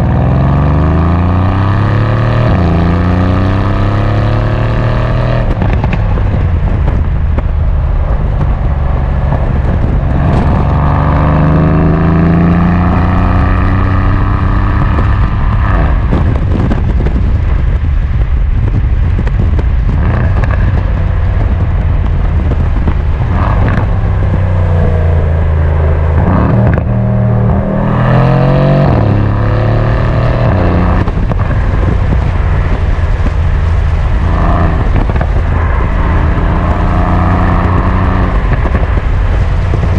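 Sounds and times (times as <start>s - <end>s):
car engine revving: 0.0s - 39.9s
exhaust pops and crackles: 4.8s - 39.9s.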